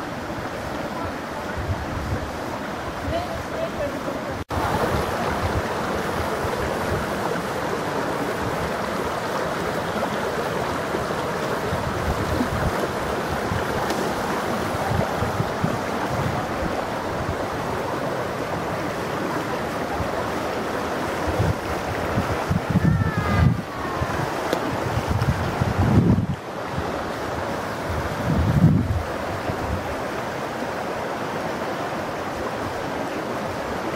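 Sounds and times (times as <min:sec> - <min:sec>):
stream rushing over stones: 0:00.0 - 0:33.9
wind gusts on microphone: 0:00.0 - 0:33.9.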